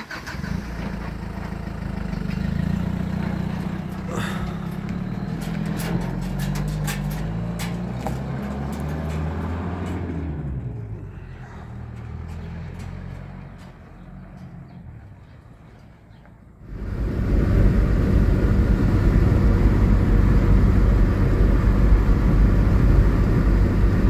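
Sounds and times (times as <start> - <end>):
truck engine driving away: 0.0 - 24.0.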